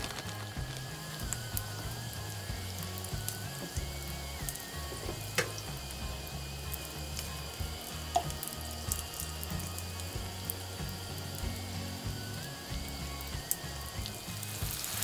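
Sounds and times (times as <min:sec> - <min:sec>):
background music: 0:00.0 - 0:15.0
sausage sizzling in a skillet: 0:00.0 - 0:15.0.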